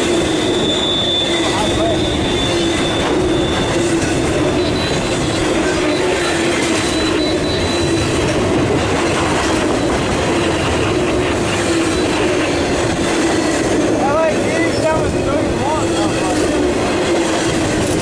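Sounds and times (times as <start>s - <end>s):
freight train cars rolling: 0.0s - 18.0s
wheels squealing: 0.0s - 18.0s.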